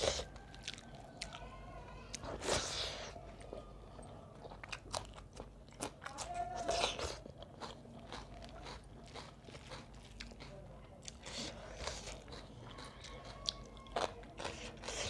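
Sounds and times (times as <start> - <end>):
person chewing and crunching: 0.0 - 15.0.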